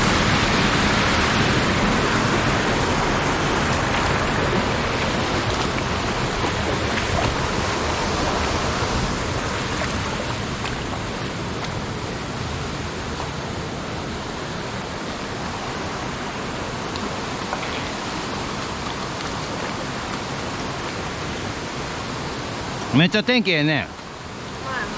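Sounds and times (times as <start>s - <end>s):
mountain stream rushing over rocks: 0.0s - 24.9s.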